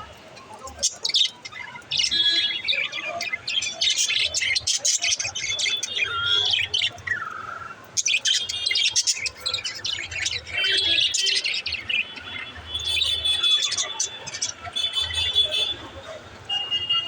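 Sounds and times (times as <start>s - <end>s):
budgerigars chirping and chattering: 0.5s - 16.1s.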